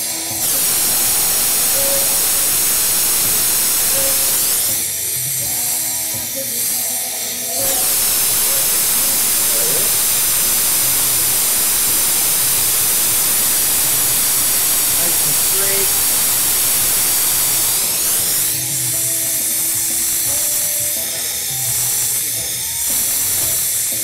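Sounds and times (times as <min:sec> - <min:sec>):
torch flame hissing: 0:00.0 - 0:24.0.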